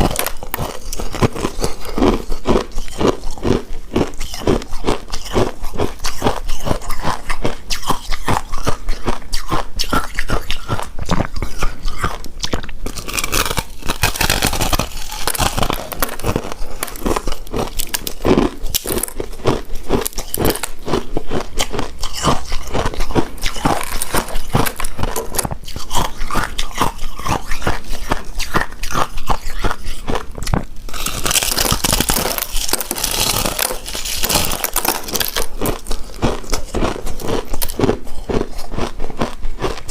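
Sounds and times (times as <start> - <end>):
chewing sticky food: 0.0 - 39.9.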